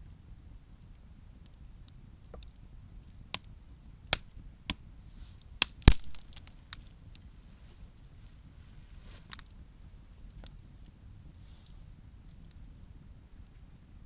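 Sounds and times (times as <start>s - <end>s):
bonfire crackling and popping: 0.0s - 14.0s
low steady rumble: 0.0s - 14.0s.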